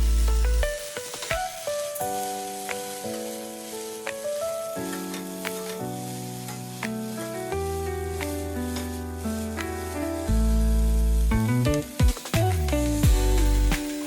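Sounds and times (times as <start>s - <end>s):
food sizzling in a hot pan: 0.0s - 14.0s
instrumental background music: 0.0s - 14.0s.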